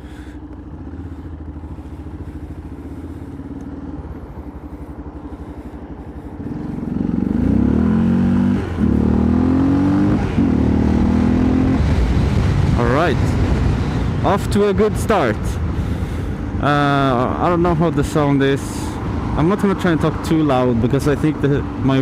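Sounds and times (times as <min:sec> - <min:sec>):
motorcycle engine running and accelerating: 0:00.0 - 0:22.0.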